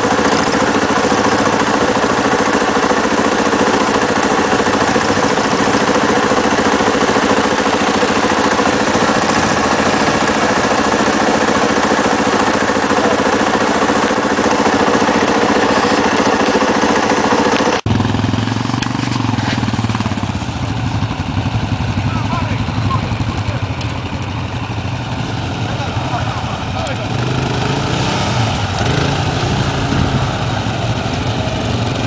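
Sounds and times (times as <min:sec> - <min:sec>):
atv engine revving high: 0:00.0 - 0:32.0
mud spraying from wheels: 0:00.0 - 0:32.0.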